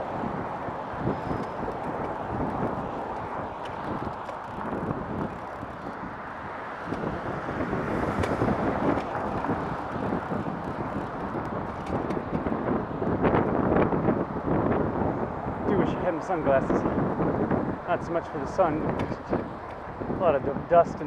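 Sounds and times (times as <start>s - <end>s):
heavy road traffic: 0.0s - 21.0s
wind rushing over microphone: 0.0s - 21.0s.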